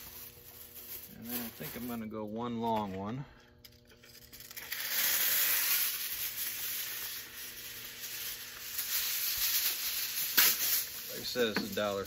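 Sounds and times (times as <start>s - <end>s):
aluminum foil crinkling: 0.0s - 12.0s.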